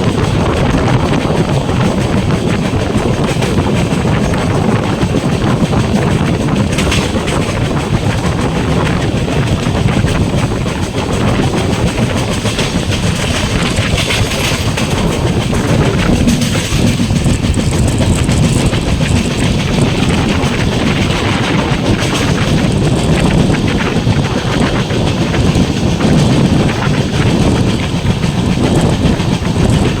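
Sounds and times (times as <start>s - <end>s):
train wheels rumbling on track: 0.0s - 30.0s
rattling clicks: 0.2s - 26.0s.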